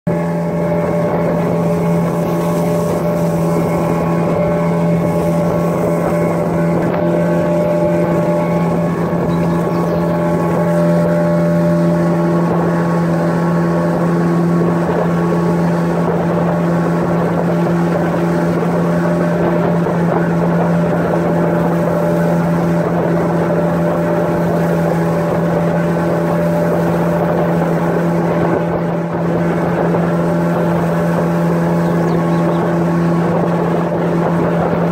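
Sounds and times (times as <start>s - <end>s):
outboard motor droning: 0.1s - 34.9s.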